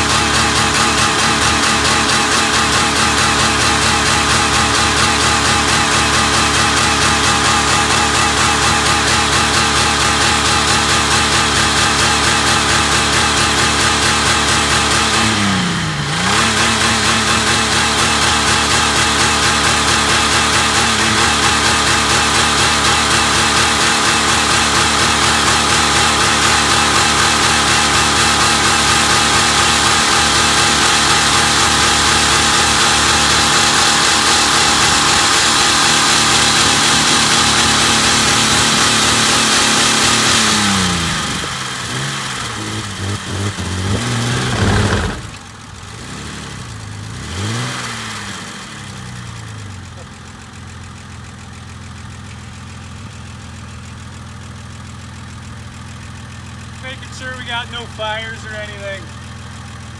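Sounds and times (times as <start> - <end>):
car engine revving: 0.0 - 50.3, 56.1 - 59.9.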